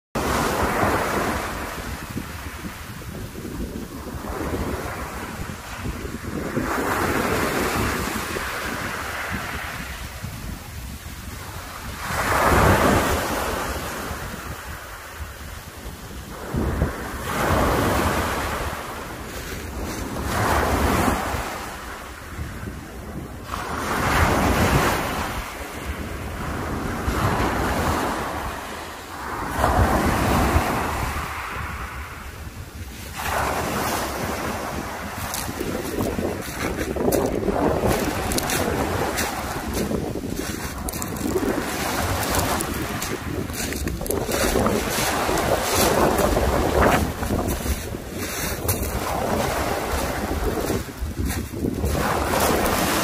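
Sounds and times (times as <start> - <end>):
waves washing up a pebble beach: 0.2 - 53.0
wind rumble on microphone: 0.2 - 53.0.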